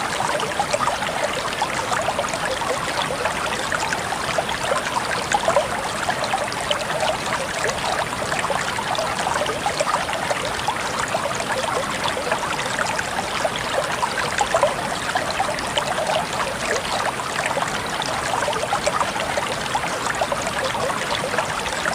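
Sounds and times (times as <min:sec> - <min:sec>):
water flowing and trickling: 0:00.0 - 0:21.9.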